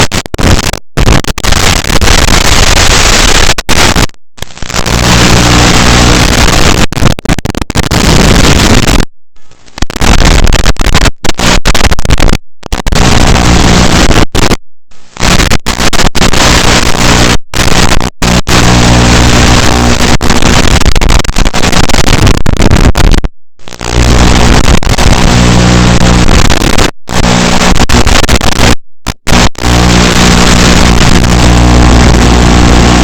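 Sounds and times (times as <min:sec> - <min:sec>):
buzzing video signal static: 0:00.0 - 0:33.0.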